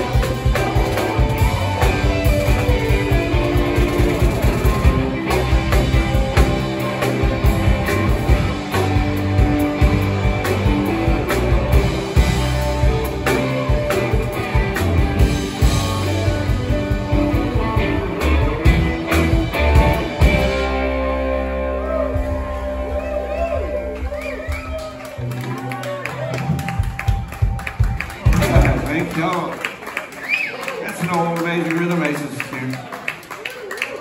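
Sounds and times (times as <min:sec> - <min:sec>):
drum kit beat: 0:00.0 - 0:25.0, 0:26.2 - 0:29.4
electric guitars: 0:00.0 - 0:29.5.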